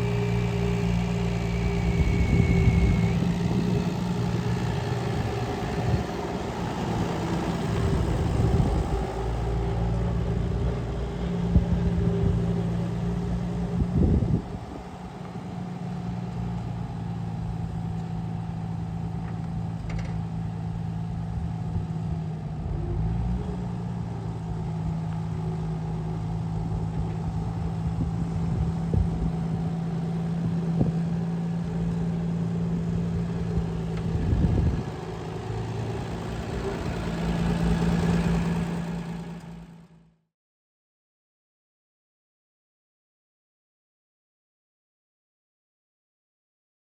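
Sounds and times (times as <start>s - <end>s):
tractor engine running: 0.0s - 40.1s.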